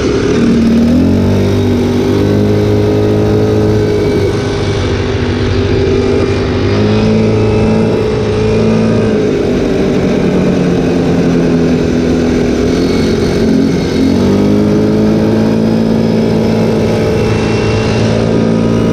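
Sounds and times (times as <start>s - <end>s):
atv engine running: 0.0s - 18.9s.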